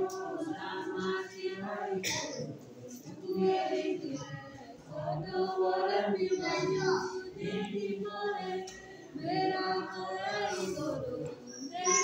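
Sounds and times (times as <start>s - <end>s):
voices singing a hymn: 0.0s - 12.0s.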